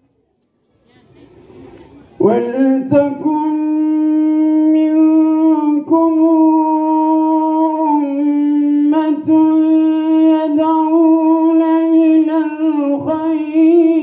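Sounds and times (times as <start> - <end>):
person reciting melodically: 2.1 - 14.0.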